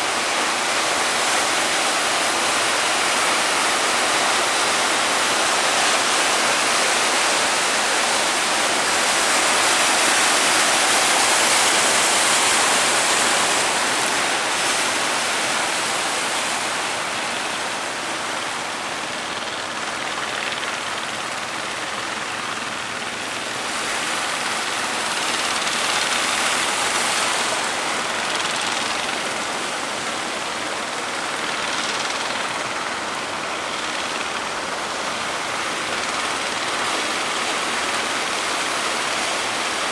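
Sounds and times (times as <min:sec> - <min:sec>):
big waves breaking: 0:00.0 - 0:39.9.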